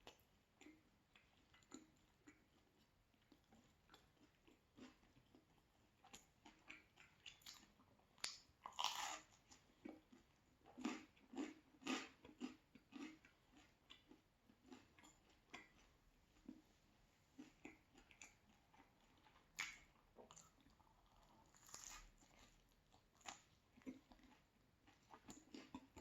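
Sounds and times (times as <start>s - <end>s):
chewing and crunching pizza: 0.0s - 26.0s.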